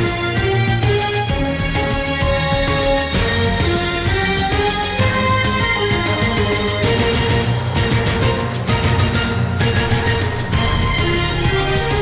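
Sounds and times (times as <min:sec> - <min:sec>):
news theme music: 0:00.0 - 0:12.0.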